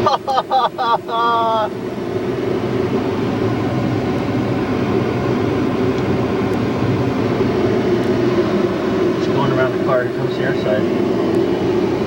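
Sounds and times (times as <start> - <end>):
car wash mechanical hum: 0.0 - 12.0.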